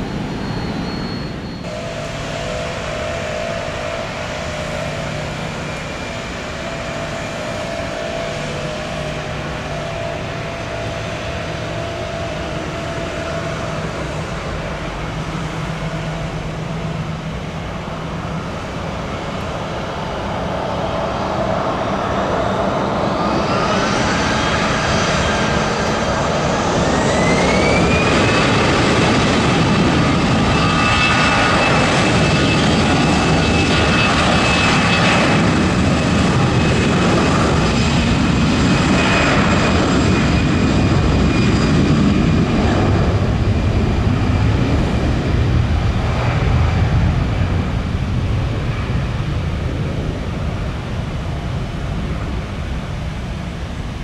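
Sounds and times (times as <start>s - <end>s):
jet engines spooling up: 0.0s - 54.0s.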